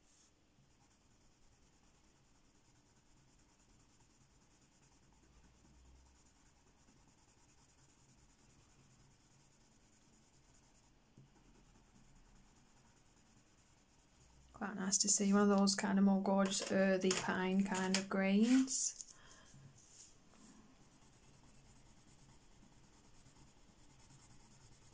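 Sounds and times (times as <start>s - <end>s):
pencil scratching on paper: 0.1s - 15.5s, 16.2s - 24.9s.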